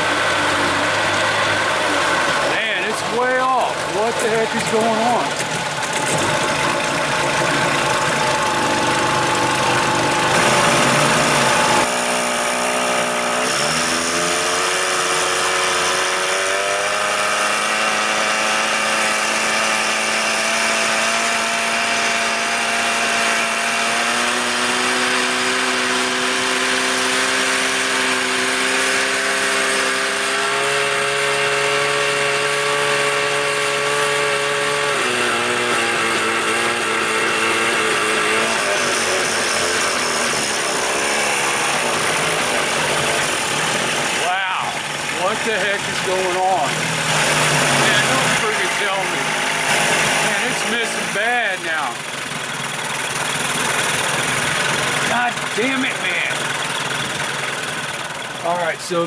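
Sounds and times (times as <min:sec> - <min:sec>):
outboard engine running unevenly: 0:00.0 - 0:59.0.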